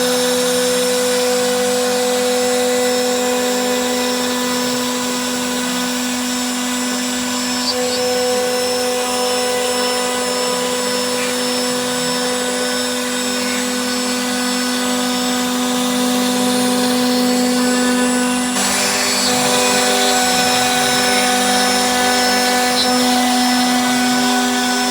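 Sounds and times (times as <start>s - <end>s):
router spindle cutting wood: 0.0s - 24.9s.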